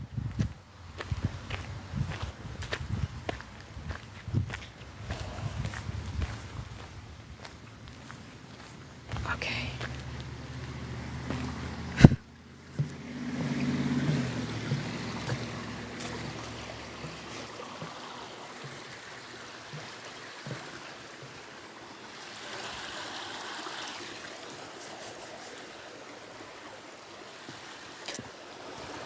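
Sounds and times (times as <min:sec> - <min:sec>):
creek water rushing: 0:00.6 - 0:29.0.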